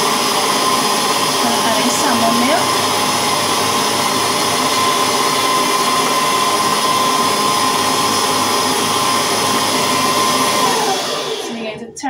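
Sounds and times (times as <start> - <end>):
electric mixer motor whining: 0.0 - 11.7.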